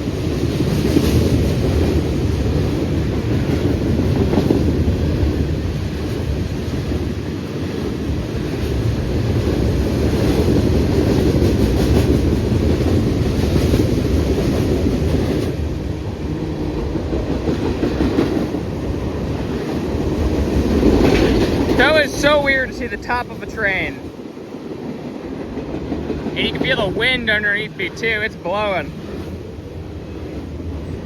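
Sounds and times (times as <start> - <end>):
clickety-clack of rail joints: 0.0 - 29.4
freight train wheels rumbling: 0.0 - 31.0.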